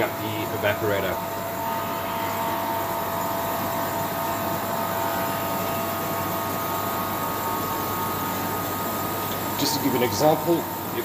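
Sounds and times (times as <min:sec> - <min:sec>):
ice machine hiss and hum: 0:00.0 - 0:11.0.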